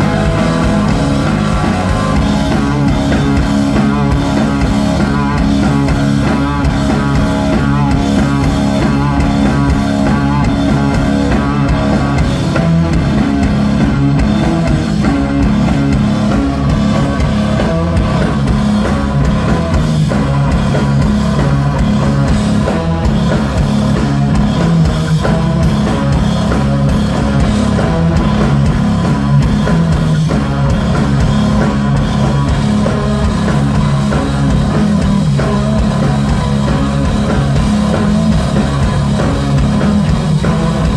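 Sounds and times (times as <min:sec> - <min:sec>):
drum kit: 0:00.0 - 0:40.9
electric bass: 0:00.0 - 0:40.9
electric guitar: 0:00.0 - 0:40.9.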